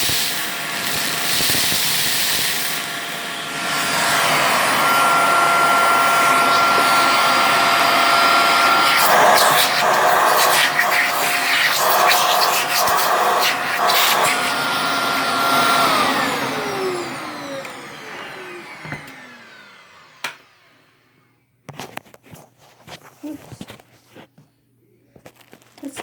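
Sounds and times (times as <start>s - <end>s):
vacuum cleaner running: 0.0s - 21.2s.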